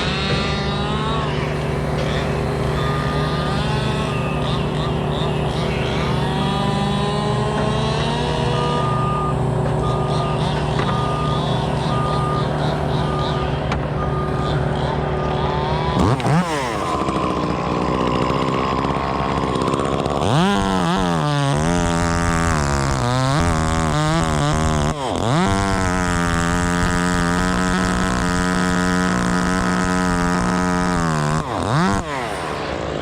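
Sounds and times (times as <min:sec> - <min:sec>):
chainsaw revving while cutting: 0:00.0 - 0:33.0.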